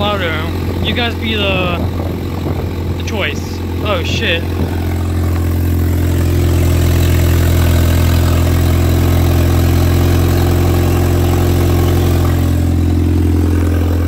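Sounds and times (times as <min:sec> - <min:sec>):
car engine idling loud: 0:00.0 - 0:14.0.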